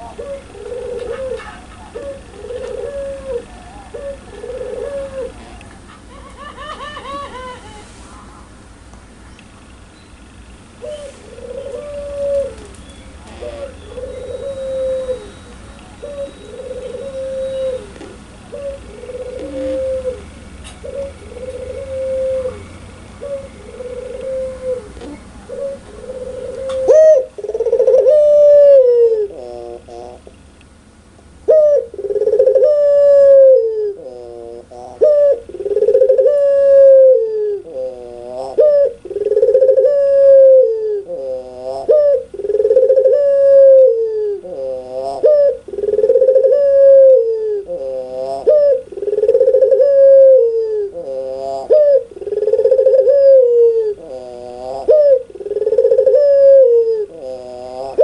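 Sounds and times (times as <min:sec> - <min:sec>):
dove cooing: 0:00.0 - 0:07.7, 0:10.8 - 0:30.3, 0:31.4 - 0:58.0
dove laughing call: 0:00.0 - 0:08.3, 0:10.8 - 0:30.3, 0:31.4 - 0:58.0.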